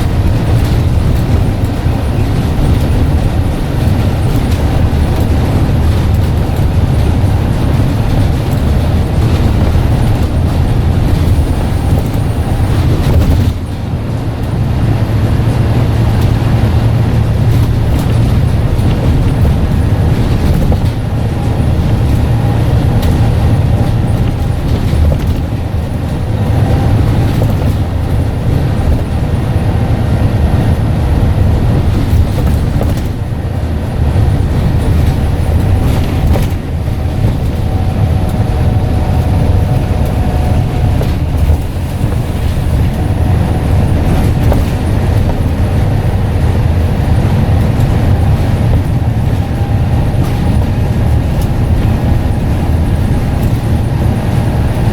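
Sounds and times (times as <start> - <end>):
bus engine rumbling: 0.0 - 54.9.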